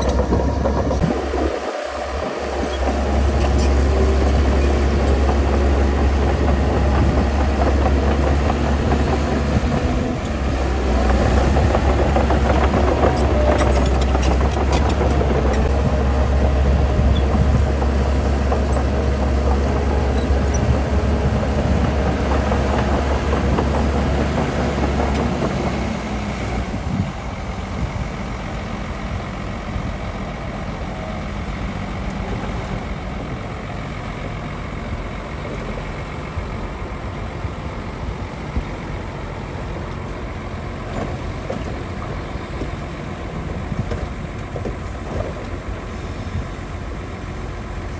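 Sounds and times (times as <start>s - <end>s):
heavy machinery engine rumbling: 0.0s - 47.9s.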